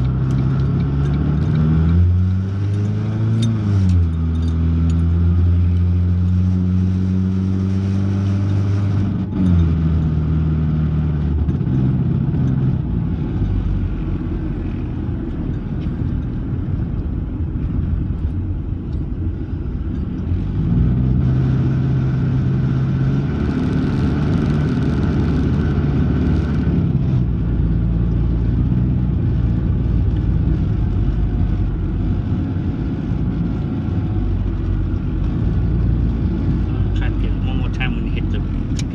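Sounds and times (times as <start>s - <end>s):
car engine accelerating: 0.0s - 38.9s
rough low engine rumble: 0.0s - 38.9s.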